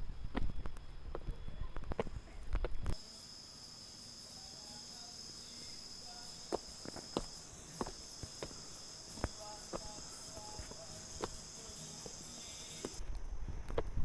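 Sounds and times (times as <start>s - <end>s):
insects trilling: 0.0s - 13.1s.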